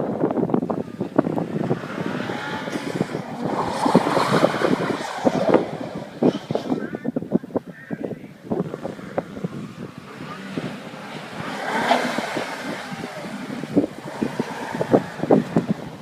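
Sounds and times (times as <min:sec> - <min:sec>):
car engine and tyres passing: 0:00.0 - 0:07.0, 0:08.4 - 0:16.0
wind buffeting microphone: 0:00.0 - 0:16.0.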